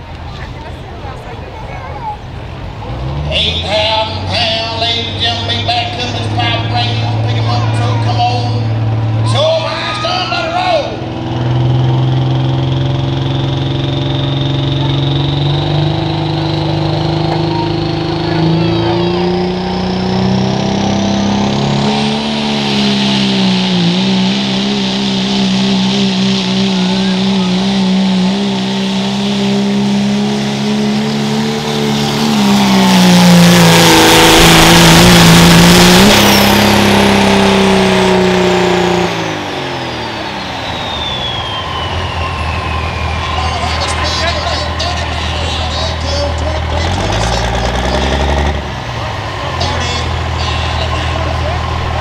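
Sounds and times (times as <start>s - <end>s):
diesel truck engine under load: 0.0s - 52.0s
turbocharger whistle: 4.4s - 52.0s.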